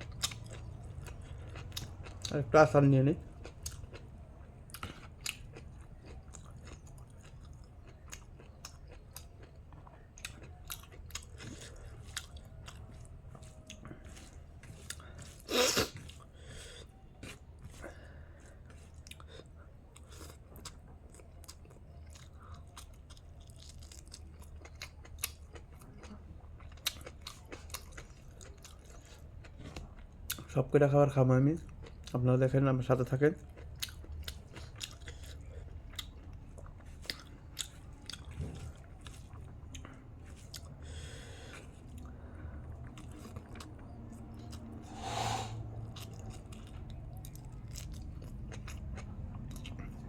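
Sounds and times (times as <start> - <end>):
person chewing food: 0.0 - 2.4, 3.1 - 30.5, 31.6 - 32.2, 33.3 - 50.0
faint low hum: 0.0 - 50.0.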